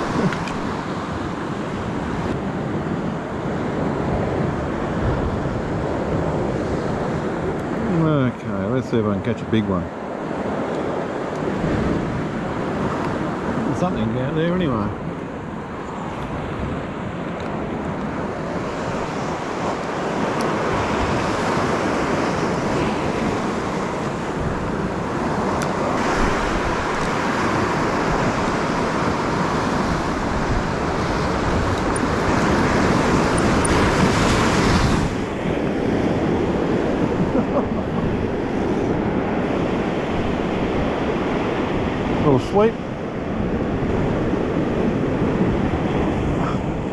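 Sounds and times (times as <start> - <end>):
ocean surf breaking over rocks: 0.0 - 46.9
wind buffeting microphone: 0.0 - 46.9.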